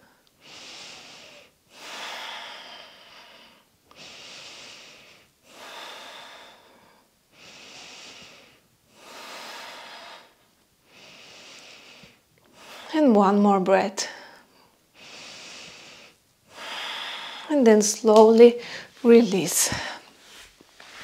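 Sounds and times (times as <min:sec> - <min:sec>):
woman breathing deeply: 0:00.0 - 0:13.0, 0:14.0 - 0:17.6, 0:18.6 - 0:21.0.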